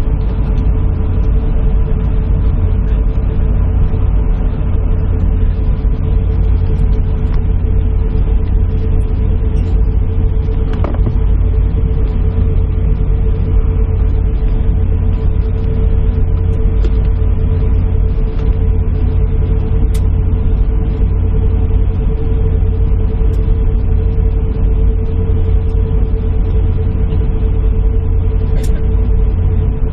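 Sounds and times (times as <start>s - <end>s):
aircraft cabin engine rumble: 0.0s - 29.9s
constant engine whine: 0.0s - 29.9s.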